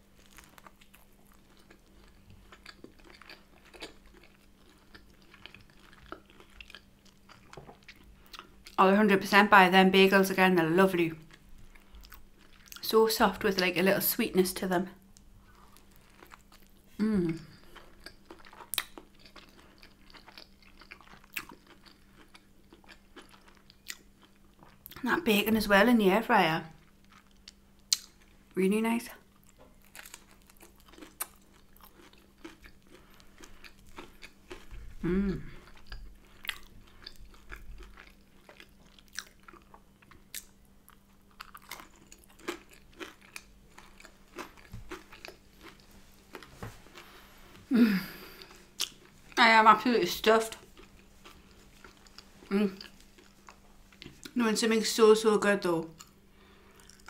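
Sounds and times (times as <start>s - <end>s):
person chewing with wet smacks: 0.1s - 8.8s, 11.2s - 12.8s, 15.1s - 25.0s, 26.8s - 28.4s, 29.2s - 49.4s, 50.5s - 54.4s, 55.9s - 57.0s.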